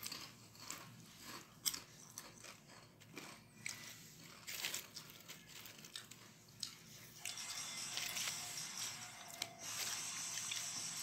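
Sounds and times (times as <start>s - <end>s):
potato chips crunching: 0.0s - 11.0s.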